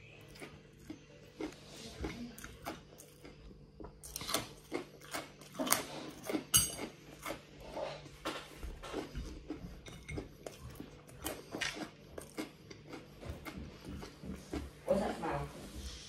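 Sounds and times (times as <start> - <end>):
person chewing crunchy food: 0.0 - 14.9.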